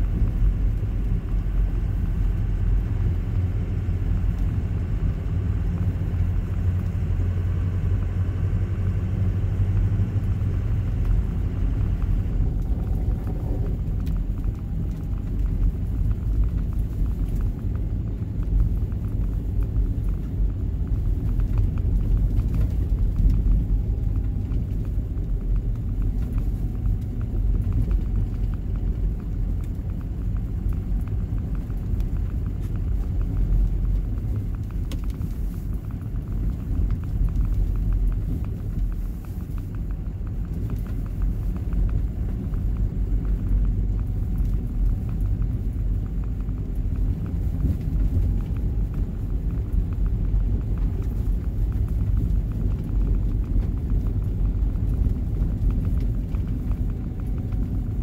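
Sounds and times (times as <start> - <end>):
car driving on snowy road: 0.0 - 58.0.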